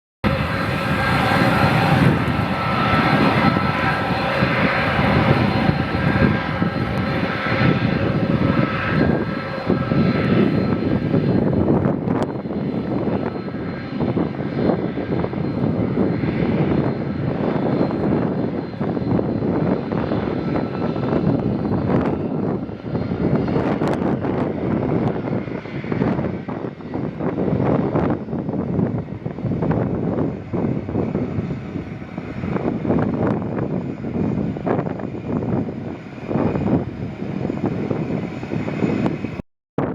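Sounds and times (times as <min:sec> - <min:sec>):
high jet engine whine: 0:00.2 - 0:39.9
jet engine roar: 0:00.2 - 0:39.9.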